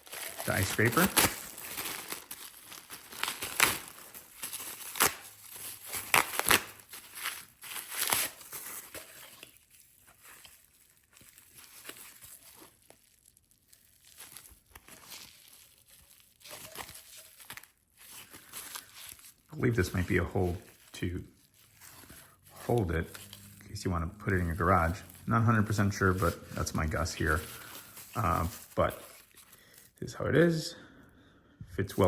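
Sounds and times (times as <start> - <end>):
packaging wrap crinkling and tearing: 0.0 - 30.0.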